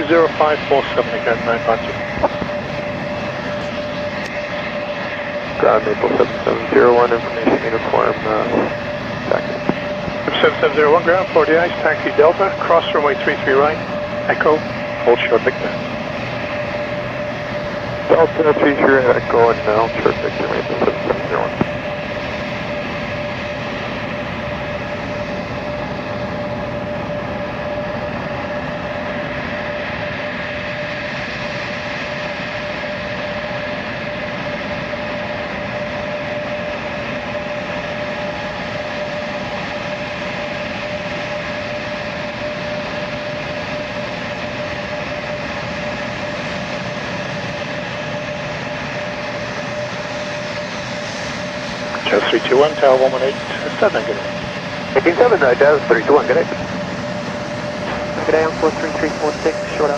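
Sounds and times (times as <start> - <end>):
aircraft engine whine: 0.0 - 59.9.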